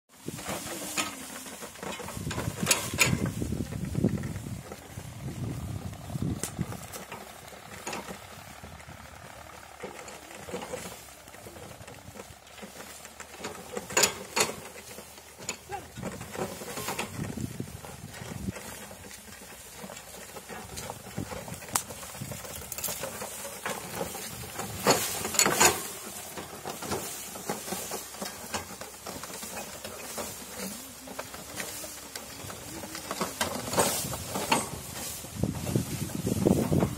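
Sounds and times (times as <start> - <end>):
wooden cart rolling on dirt: 0.1 - 36.9.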